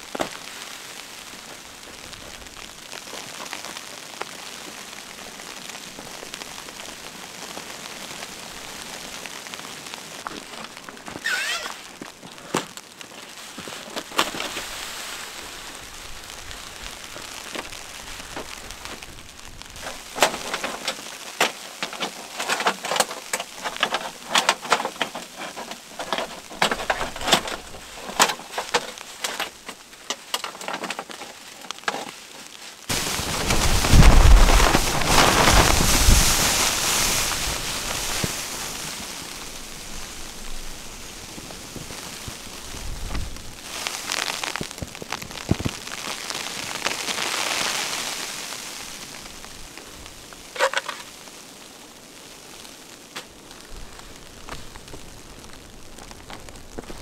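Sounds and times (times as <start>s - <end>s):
snow hitting tent fabric: 1.5s - 51.4s.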